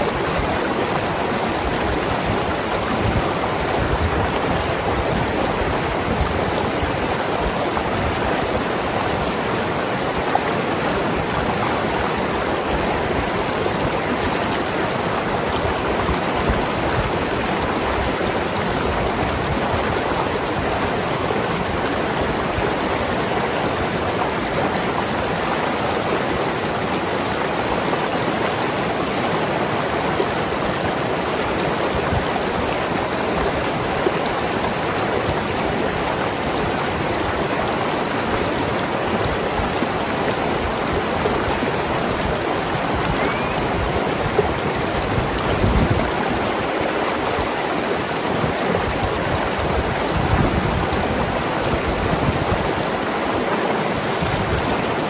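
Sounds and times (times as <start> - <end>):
river running over rocks: 0.0 - 55.0.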